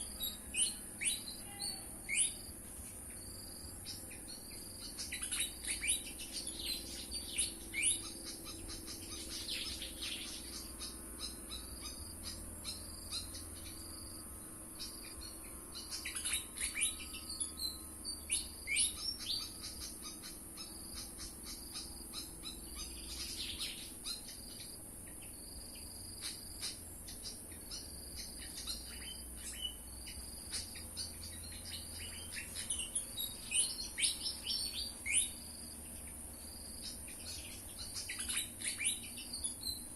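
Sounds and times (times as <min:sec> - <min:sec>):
bird chirping song: 0:00.0 - 0:39.9
high insect drone: 0:00.0 - 0:39.9.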